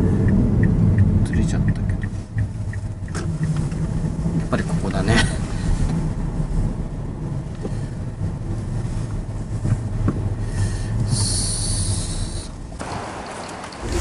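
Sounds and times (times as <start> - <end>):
car engine and tyres rumbling: 0.0 - 14.0.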